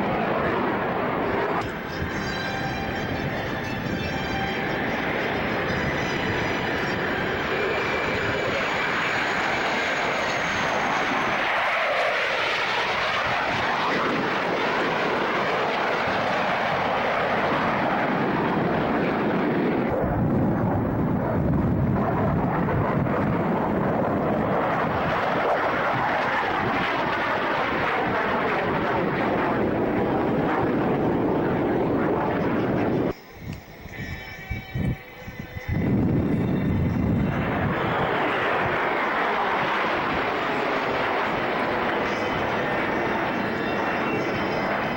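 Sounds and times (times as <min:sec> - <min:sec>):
airplane engine noise: 0:00.0 - 0:44.9.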